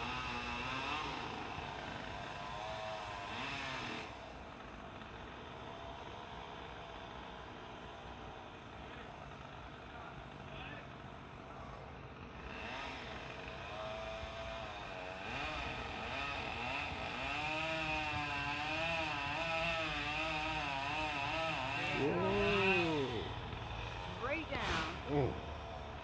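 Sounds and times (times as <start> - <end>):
chainsaw cutting: 0.0 - 11.4, 12.1 - 26.0.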